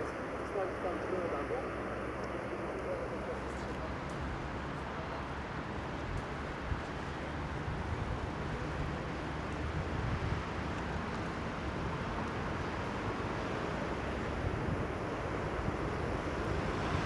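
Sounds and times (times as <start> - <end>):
engine and traffic rumble: 0.0 - 17.0.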